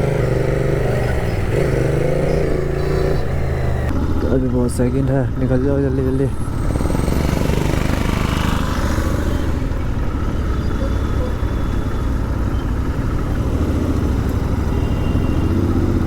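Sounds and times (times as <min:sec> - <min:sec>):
motorcycle engine running: 0:00.0 - 0:04.6, 0:05.2 - 0:16.0
road noise: 0:00.0 - 0:16.0.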